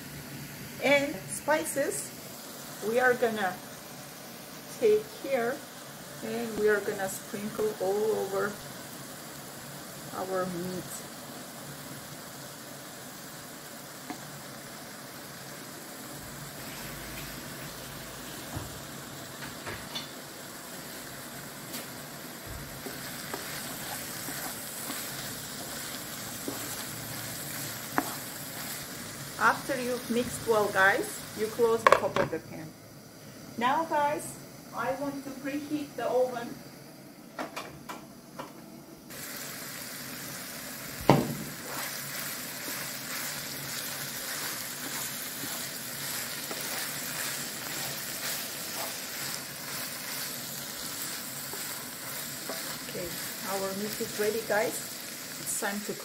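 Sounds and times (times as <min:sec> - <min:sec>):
meat sizzling in a frying pan: 0:00.0 - 0:32.2, 0:39.1 - 0:56.0.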